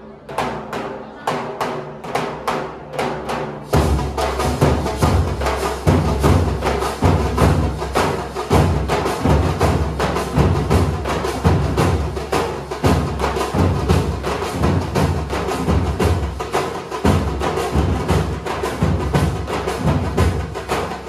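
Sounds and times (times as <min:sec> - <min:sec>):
deep booming drum beats: 0:03.3 - 0:21.0.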